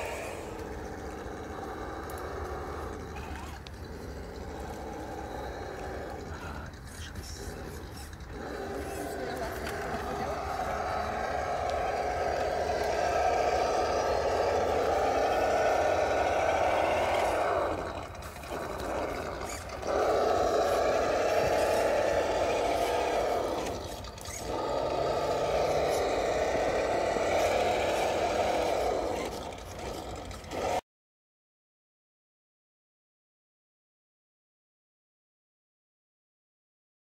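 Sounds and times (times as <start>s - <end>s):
electric motor whining: 0.0s - 30.8s.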